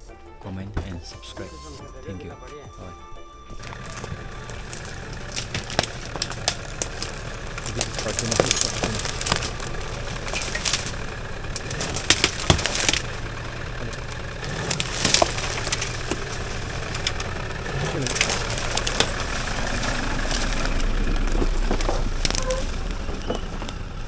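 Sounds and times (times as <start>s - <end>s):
vehicle engine running: 0.0s - 24.0s
clicks and rattles: 3.6s - 24.0s.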